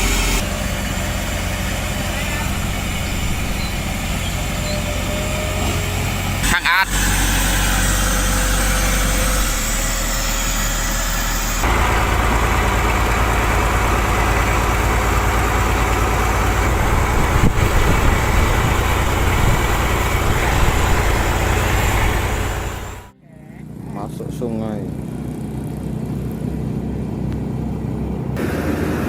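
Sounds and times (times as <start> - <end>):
heavy machinery engines rumbling: 0.0 - 29.0.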